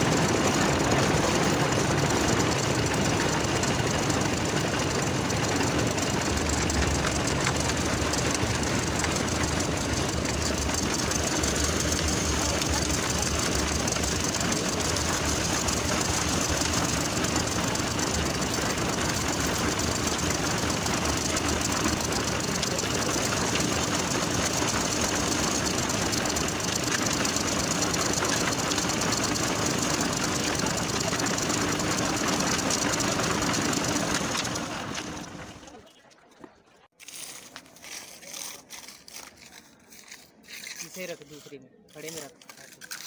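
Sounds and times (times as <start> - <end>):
concrete mixer engine running: 0.0 - 43.0.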